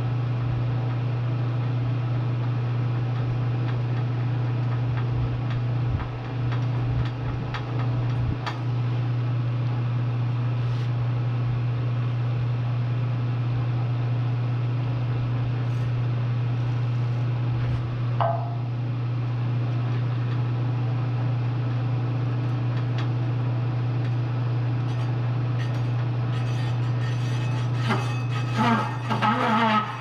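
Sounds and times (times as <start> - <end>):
milling machine humming: 0.0 - 30.0.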